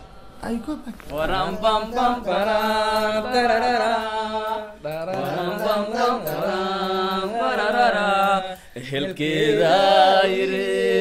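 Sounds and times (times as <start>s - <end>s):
person singing unaccompanied chant: 1.1s - 11.0s.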